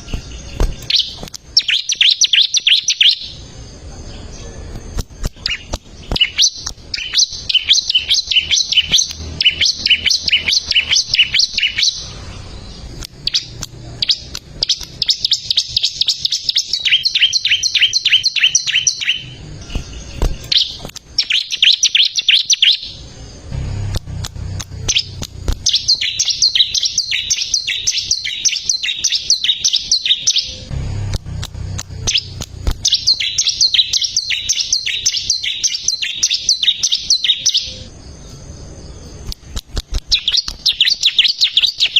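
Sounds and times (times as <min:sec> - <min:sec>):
bird singing sharp high chirps: 0:00.0 - 0:41.9.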